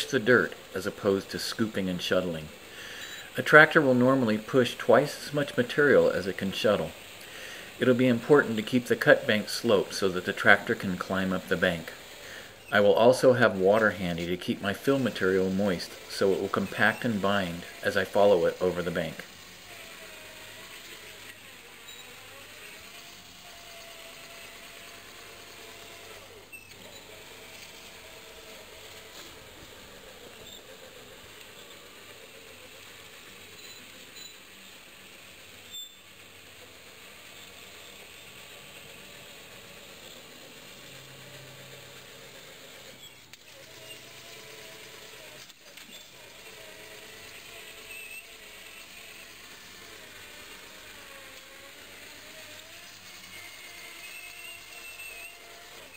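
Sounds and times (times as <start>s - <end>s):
electric motor and gears whining: 0.0s - 55.9s
steady hiss: 0.0s - 55.9s.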